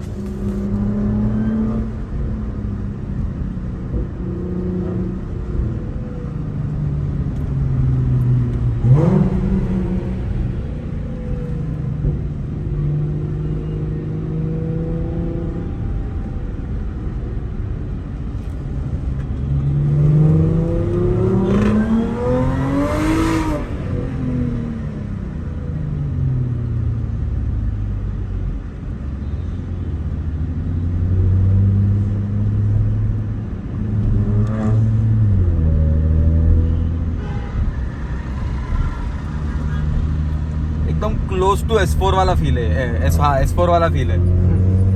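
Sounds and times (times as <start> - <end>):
car engine accelerating hard: 0.0 - 29.0, 30.2 - 44.9.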